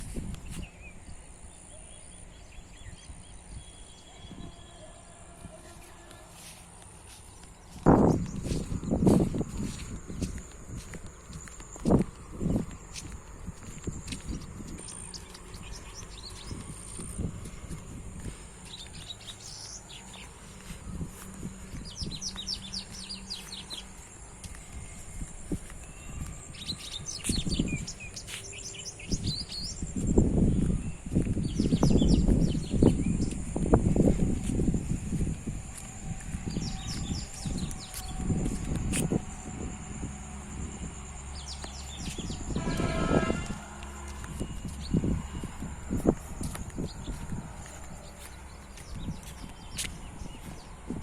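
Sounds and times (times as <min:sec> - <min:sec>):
low steady rumble: 0:00.0 - 0:51.0
small birds chirping: 0:00.0 - 0:51.0.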